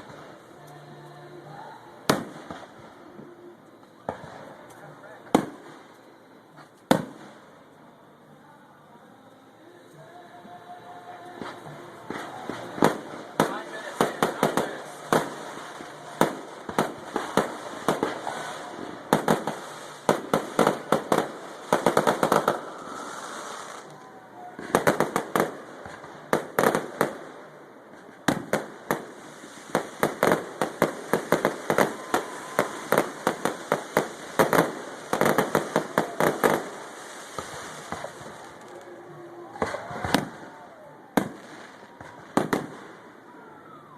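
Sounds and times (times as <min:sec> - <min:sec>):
fireworks bursting with sharp bangs: 0:00.0 - 0:08.2, 0:09.6 - 0:43.9.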